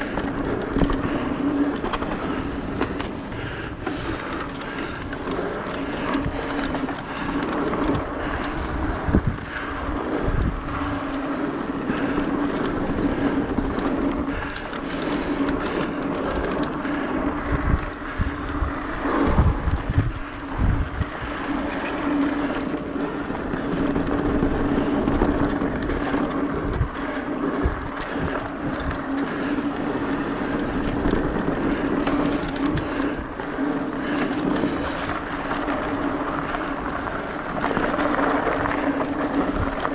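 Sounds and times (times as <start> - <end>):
bike knocks and rattles over bumps: 0.0 - 39.9
bike tyres on dirt and leaves: 0.0 - 39.9
wind on microphone: 0.0 - 39.9.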